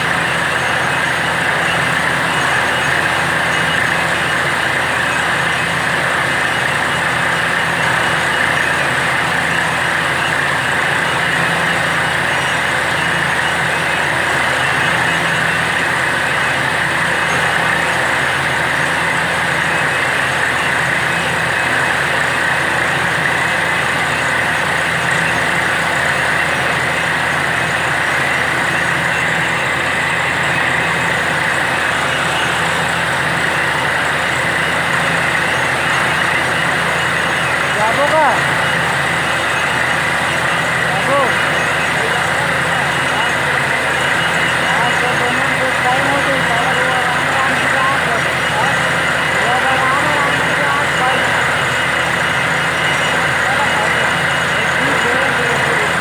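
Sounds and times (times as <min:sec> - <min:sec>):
drilling rig engine droning: 0:00.0 - 0:56.0.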